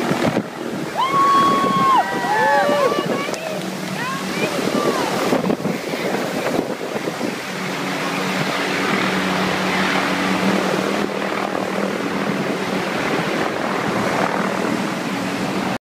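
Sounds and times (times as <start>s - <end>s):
helicopter hovering: 0.0s - 15.8s.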